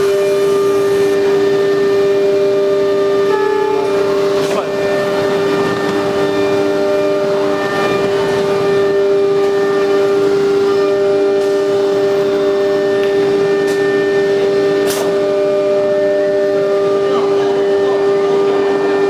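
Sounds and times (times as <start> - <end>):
spindle motor high whine: 0.0 - 19.0.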